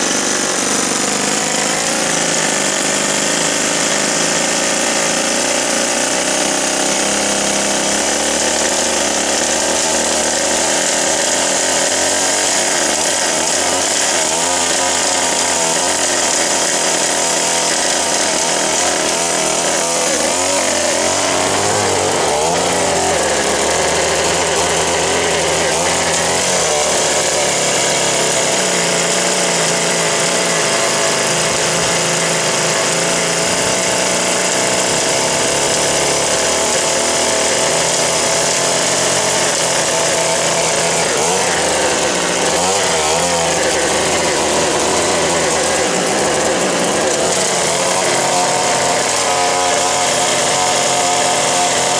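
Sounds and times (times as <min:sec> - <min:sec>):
hedge trimmer engine running: 0:00.0 - 0:51.9.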